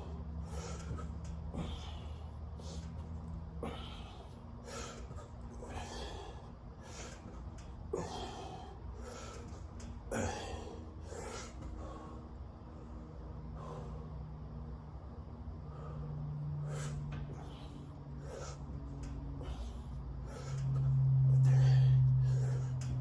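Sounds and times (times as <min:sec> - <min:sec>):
person breathing hard: 0:00.0 - 0:14.5, 0:15.5 - 0:23.0
low hum: 0:00.0 - 0:23.0.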